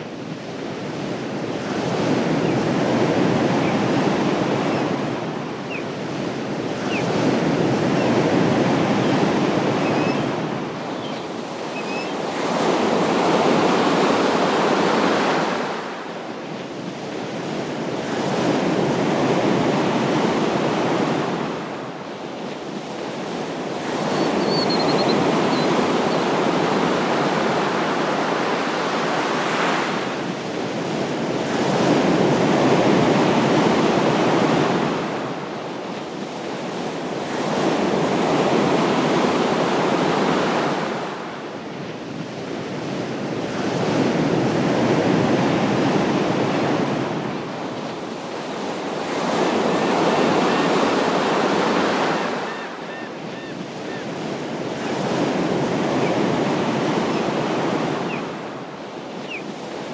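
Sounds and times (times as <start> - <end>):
ocean surf washing: 0.0 - 59.9.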